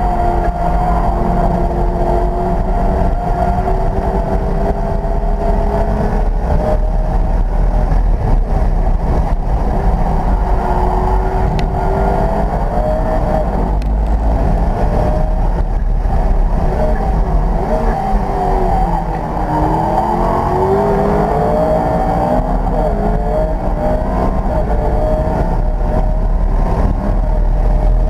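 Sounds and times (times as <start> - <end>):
race car engine: 0.0 - 28.0.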